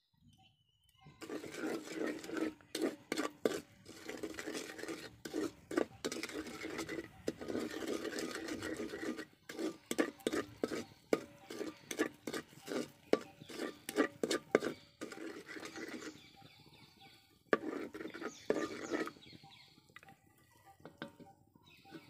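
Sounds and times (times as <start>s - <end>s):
spoon scraping metal pan: 1.1s - 22.0s.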